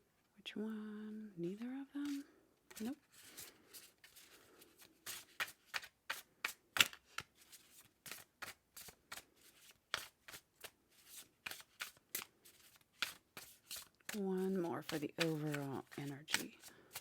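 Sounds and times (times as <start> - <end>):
cards being shuffled: 2.0 - 17.0.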